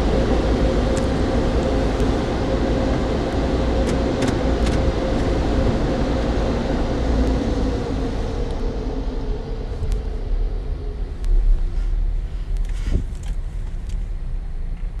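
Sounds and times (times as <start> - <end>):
car wash rumbling: 0.0 - 14.6.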